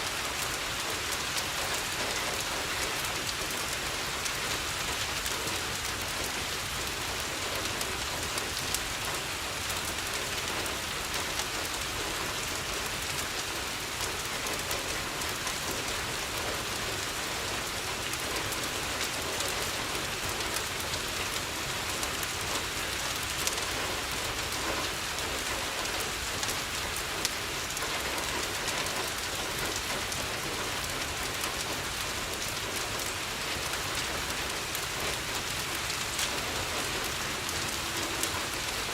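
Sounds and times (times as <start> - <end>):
rain falling on a window: 0.0 - 38.9.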